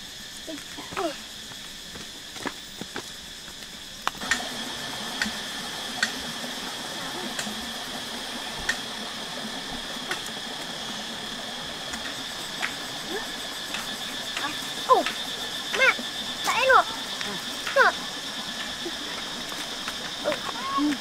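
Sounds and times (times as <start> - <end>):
even hiss: 0.0 - 21.0
high insect drone: 0.0 - 21.0.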